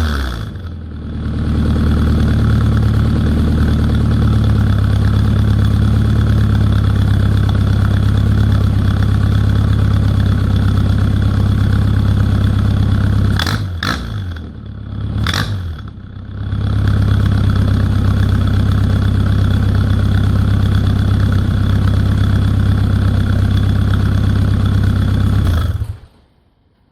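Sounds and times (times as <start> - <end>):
loud car engine idling: 0.5 - 26.0.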